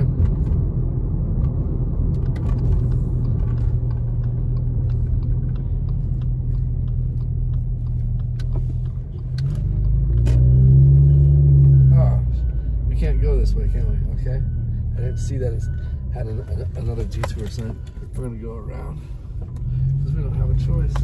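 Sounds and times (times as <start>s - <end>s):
car engine rumble: 0.0s - 21.0s.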